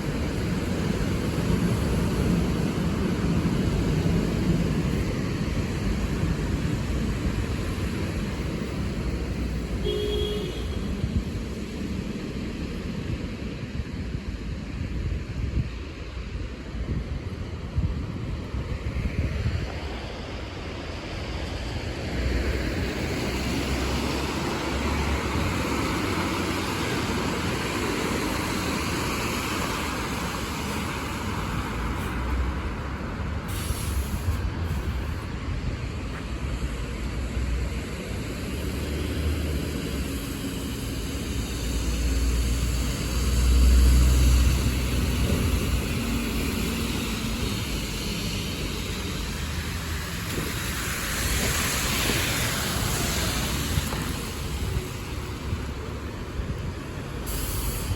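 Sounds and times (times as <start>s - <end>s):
tyres hissing on wet road: 0.0s - 57.9s
vehicle engine rumble: 0.0s - 57.9s.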